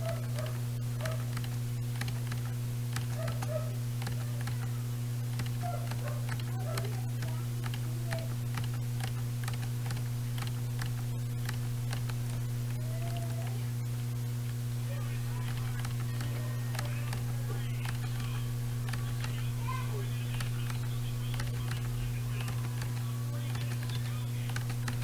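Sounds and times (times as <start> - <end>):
keyboard key clicks: 0.0 - 4.7, 5.3 - 13.4, 15.4 - 19.5, 20.3 - 25.0
steady low hum: 0.0 - 25.0.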